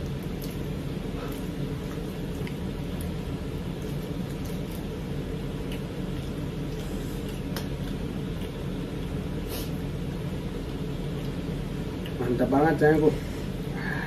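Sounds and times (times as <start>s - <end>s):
low room rumble: 0.0s - 14.0s
people eating with hands: 0.0s - 14.0s.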